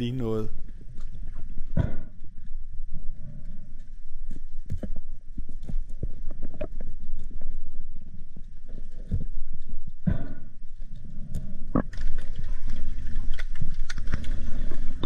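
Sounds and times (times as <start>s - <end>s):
low underwater rumble: 0.0s - 15.0s.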